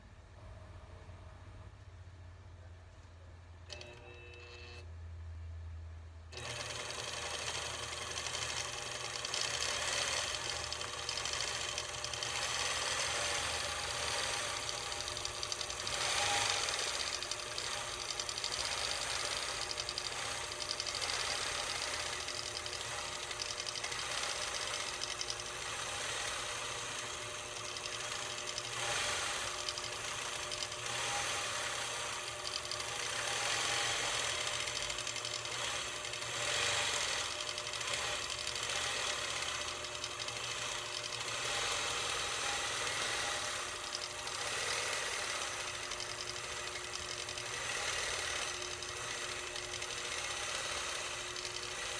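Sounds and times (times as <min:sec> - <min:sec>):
quilting machine needle chatter: 0:06.4 - 0:51.9.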